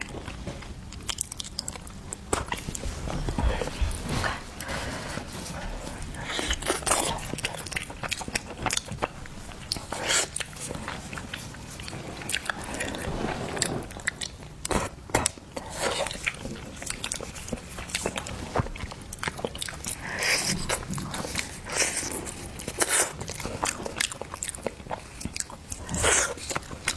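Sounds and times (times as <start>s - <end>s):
person eating crunching chewing: 0.0s - 26.9s.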